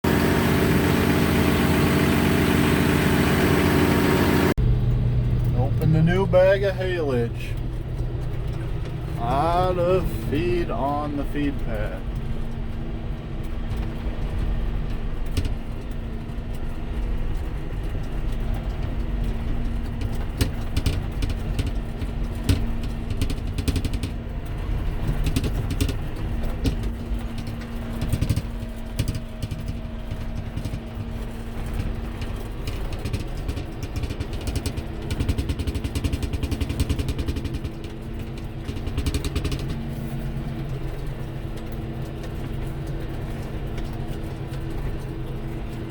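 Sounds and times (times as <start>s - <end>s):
farm machinery engine running: 0.0s - 45.9s.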